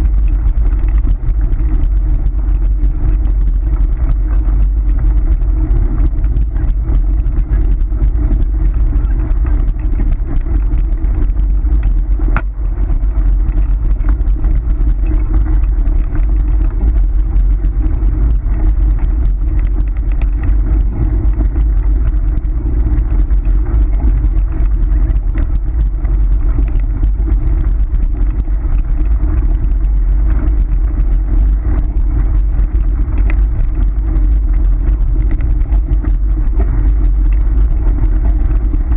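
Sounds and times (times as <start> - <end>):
scooter wheels rolling on gravel: 0.0 - 38.9.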